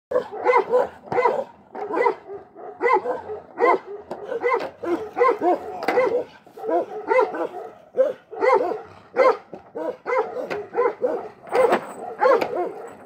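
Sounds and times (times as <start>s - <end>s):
dogs barking: 0.1s - 13.0s.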